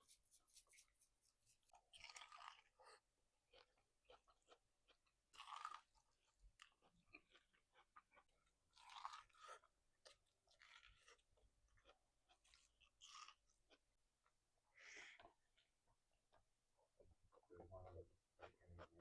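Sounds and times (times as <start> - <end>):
chewing food: 1.5 - 19.0.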